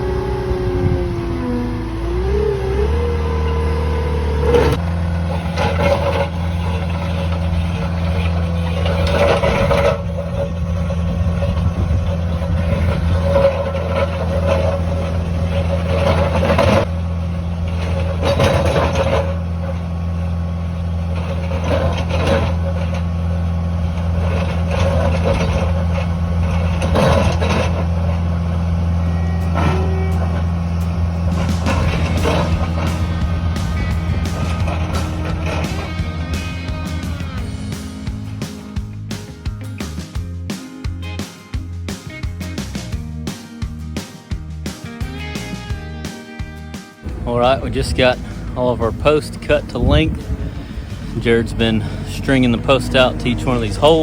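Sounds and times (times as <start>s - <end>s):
heavy machine engine running: 0.0s - 46.0s, 47.0s - 54.0s
clanks and rattles: 4.4s - 45.6s, 47.0s - 54.0s.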